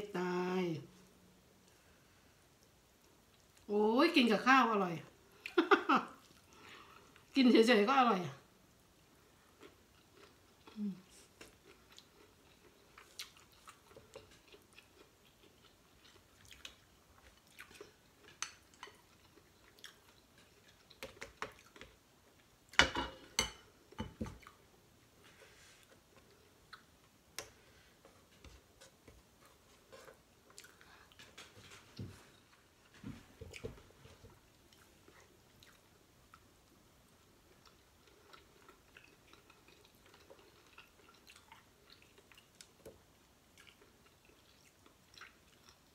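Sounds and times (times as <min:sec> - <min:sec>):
person chewing food: 0:01.6 - 0:03.7, 0:06.2 - 0:07.3, 0:09.0 - 0:22.8, 0:23.4 - 0:45.9.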